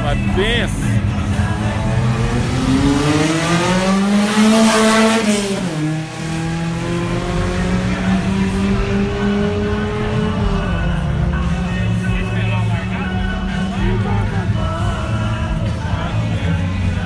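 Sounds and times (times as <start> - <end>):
racing engine accelerating: 0.8 - 17.0.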